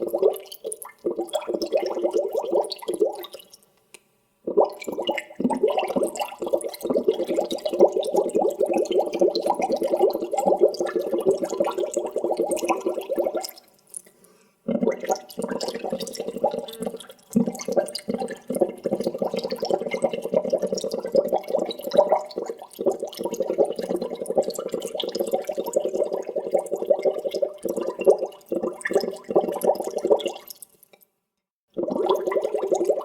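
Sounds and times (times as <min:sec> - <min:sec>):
water bubbling: 0:00.0 - 0:03.5, 0:04.5 - 0:13.7, 0:14.7 - 0:30.6, 0:31.7 - 0:33.0.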